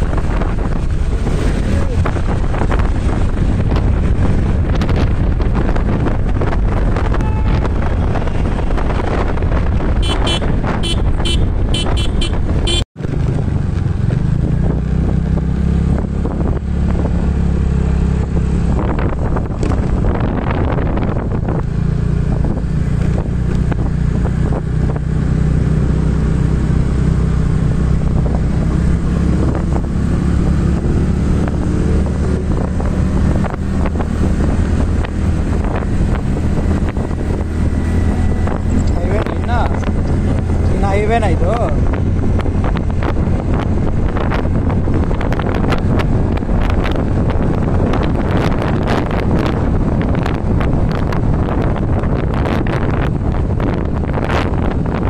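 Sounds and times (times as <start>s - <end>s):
vehicle engine running: 0.0s - 55.0s
wind buffeting microphone: 0.0s - 55.0s.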